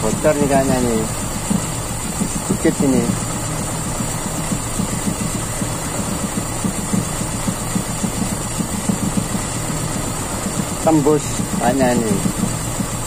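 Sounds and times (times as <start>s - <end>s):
engine idling unevenly: 0.0s - 13.0s.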